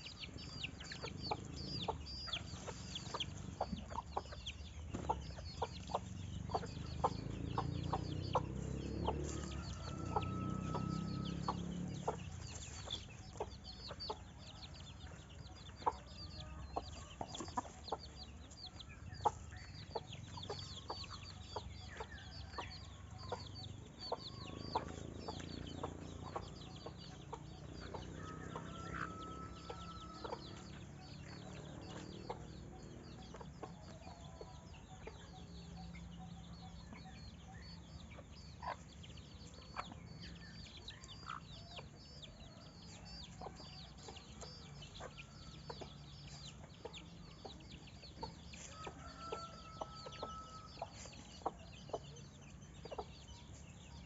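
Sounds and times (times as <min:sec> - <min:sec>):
chickens clucking: 0:00.0 - 0:54.0
small birds twittering: 0:00.0 - 0:54.0.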